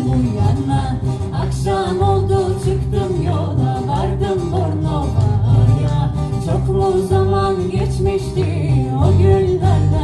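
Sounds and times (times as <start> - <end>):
band playing song: 0.0 - 10.0
plucked strings: 0.0 - 10.0.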